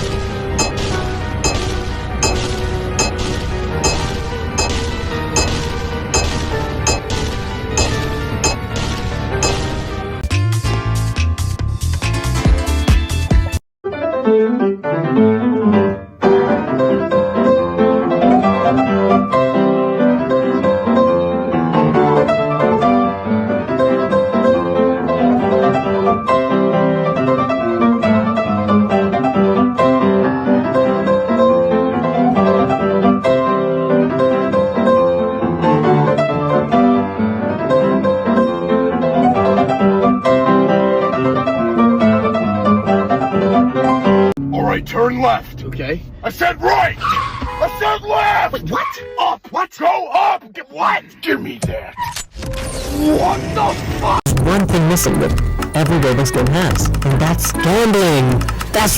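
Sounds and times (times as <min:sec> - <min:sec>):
piano music with quick notes: 0:00.0 - 0:44.4, 0:54.3 - 0:58.9.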